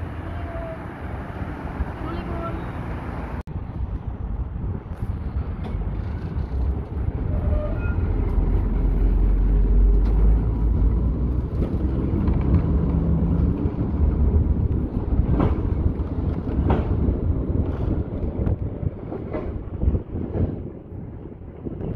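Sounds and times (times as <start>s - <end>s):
tram rumbling: 0.0s - 21.9s.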